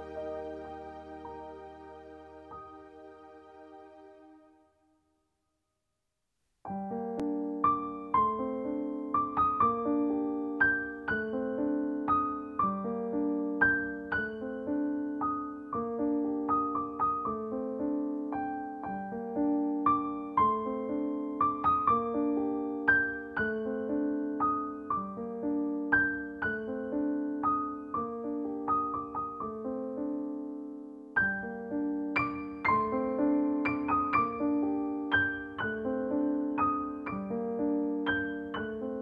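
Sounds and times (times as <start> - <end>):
gentle piano music: 0.0 - 4.7, 6.7 - 39.0.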